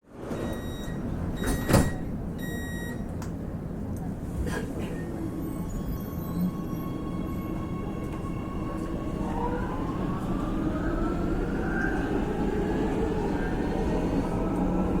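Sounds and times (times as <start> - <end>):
subway train rumbling: 0.0 - 15.0
rising train whine: 2.1 - 15.0.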